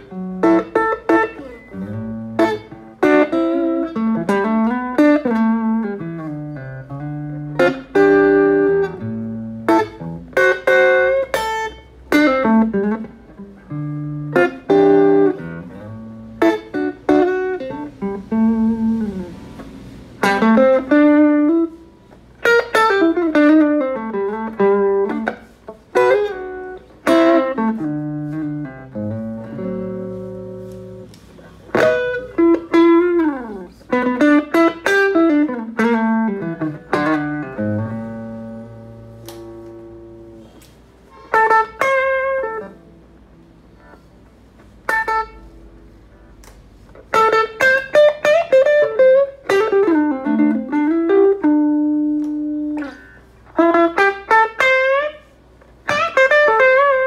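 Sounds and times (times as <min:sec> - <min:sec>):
electric guitar notes and chords: 0:00.0 - 0:57.0.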